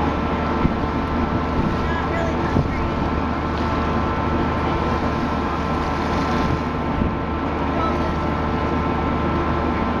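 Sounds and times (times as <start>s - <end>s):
boat machinery hum: 0.0s - 10.0s.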